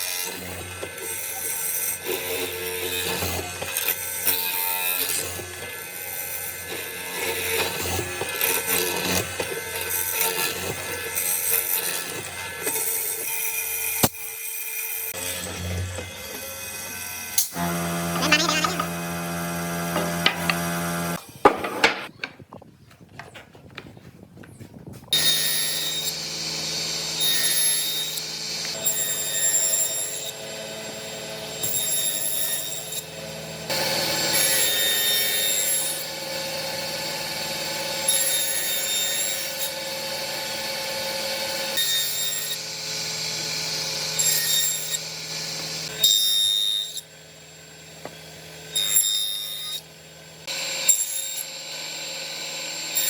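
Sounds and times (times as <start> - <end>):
power tool whining on wood: 0.0 - 22.3, 25.1 - 53.0.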